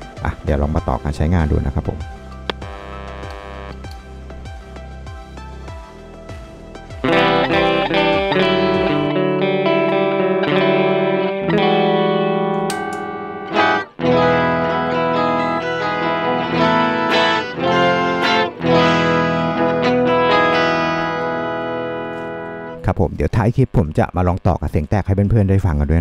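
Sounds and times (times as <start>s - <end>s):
electric guitar with octave effect: 1.8s - 25.0s.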